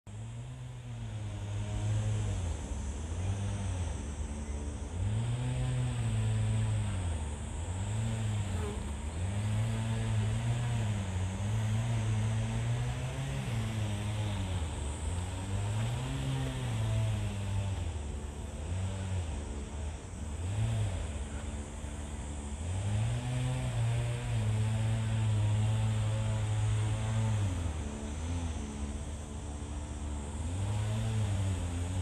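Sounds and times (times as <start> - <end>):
motor engine rising and falling: 0.4 - 32.0.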